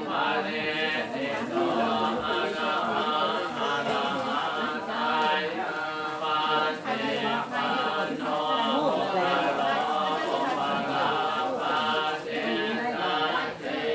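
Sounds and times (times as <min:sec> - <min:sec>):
voices chanting in unison: 0:00.0 - 0:13.9.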